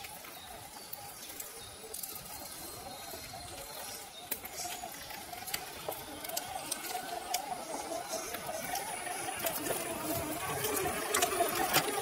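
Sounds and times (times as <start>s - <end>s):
small electric motor whining: 0.0s - 12.0s
tyres crackling over twigs: 0.0s - 12.0s.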